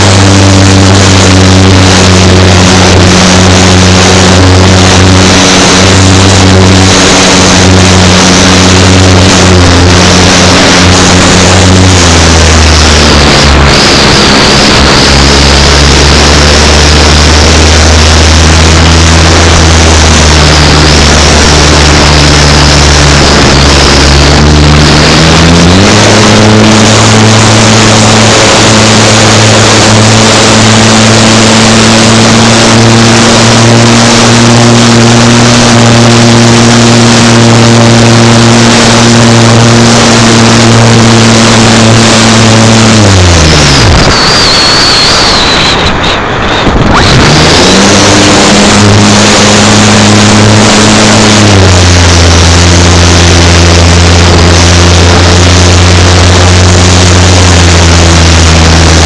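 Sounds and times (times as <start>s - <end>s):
deep steady hum: 0.0s - 59.0s
loud wind rush: 0.0s - 59.0s.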